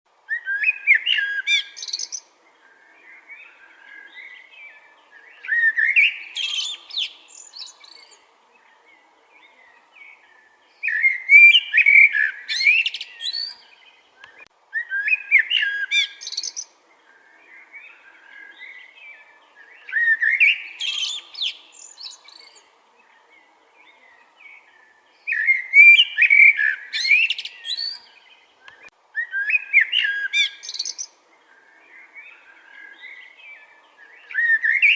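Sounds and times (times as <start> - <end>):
blackbird singing: 0.3 - 34.9
quiet bird twittering: 0.3 - 34.9.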